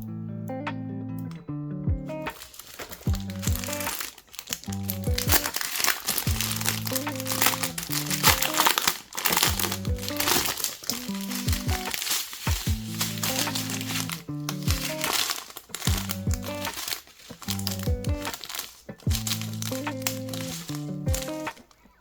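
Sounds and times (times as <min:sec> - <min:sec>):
background music: 0:00.0 - 0:22.0
packaging crinkling and rustling: 0:02.3 - 0:22.0.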